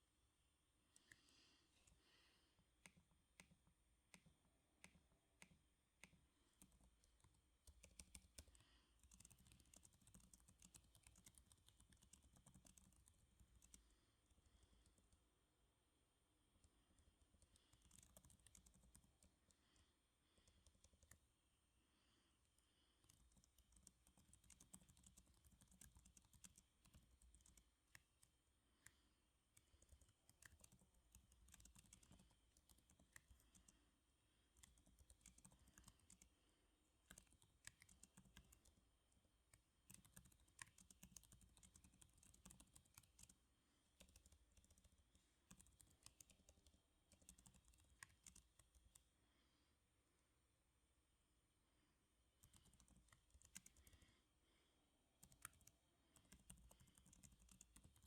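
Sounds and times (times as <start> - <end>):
faint keyboard typing: 0.9 - 15.4, 16.4 - 49.6, 52.3 - 58.0.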